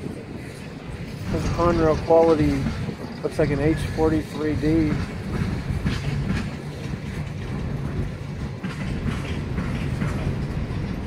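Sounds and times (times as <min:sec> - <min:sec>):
train cars clicking and clanking: 0:00.0 - 0:11.0
train wheels rumbling on rails: 0:00.0 - 0:11.0.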